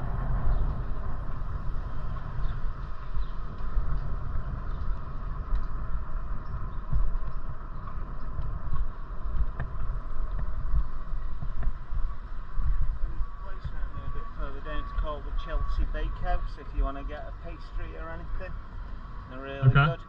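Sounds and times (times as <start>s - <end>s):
street noise hiss: 0.0s - 20.0s
wind buffeting microphone: 0.0s - 20.0s.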